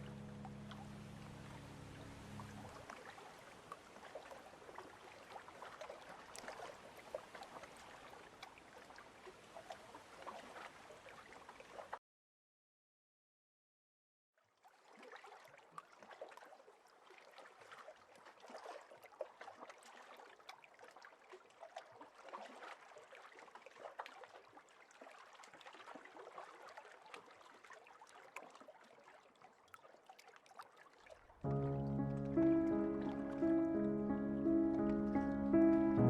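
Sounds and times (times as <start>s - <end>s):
water trickling and splashing: 0.0s - 12.0s, 14.4s - 36.0s.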